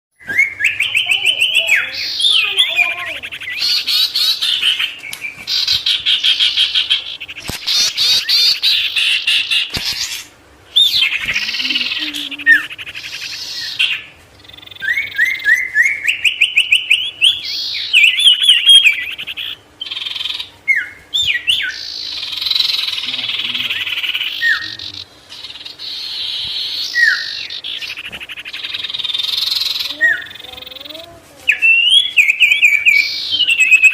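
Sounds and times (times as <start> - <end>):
songbird singing: 0.2 - 33.9.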